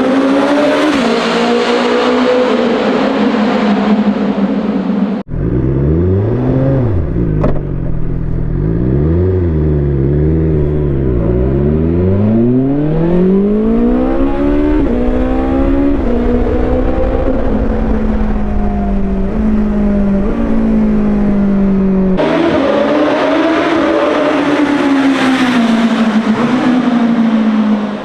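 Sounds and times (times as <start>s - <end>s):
motorcycle engine revving: 5.3s - 28.0s.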